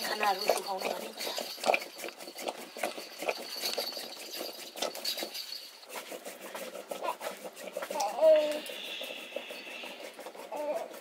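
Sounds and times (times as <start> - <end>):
stick scraping metal pot: 0.0 - 11.0.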